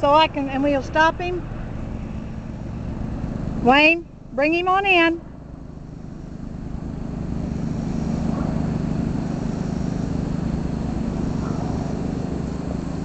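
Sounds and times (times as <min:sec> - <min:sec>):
lawnmower engine humming: 0:00.0 - 0:13.0.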